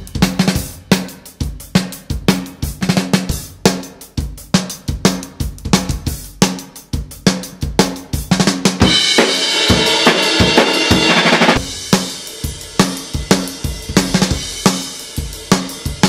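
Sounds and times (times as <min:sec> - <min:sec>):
bass drum: 0:00.0 - 0:16.0
drum kit playing a groove: 0:00.0 - 0:16.0.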